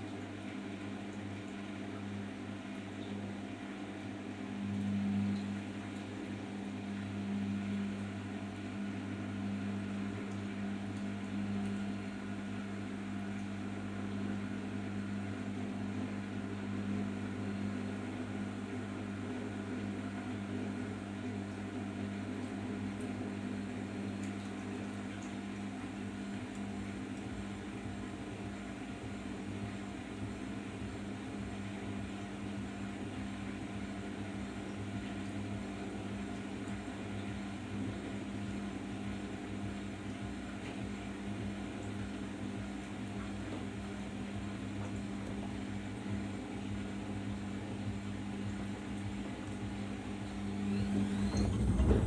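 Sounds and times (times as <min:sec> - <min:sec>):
washing machine humming: 0:00.0 - 0:52.0.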